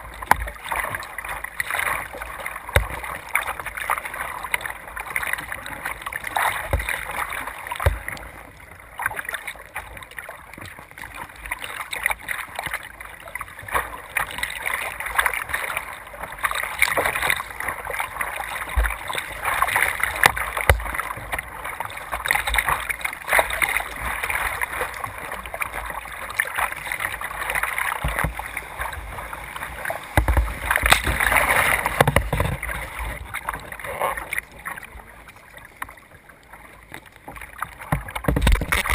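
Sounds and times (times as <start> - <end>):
water rushing along kayak hull: 0.0 - 38.9.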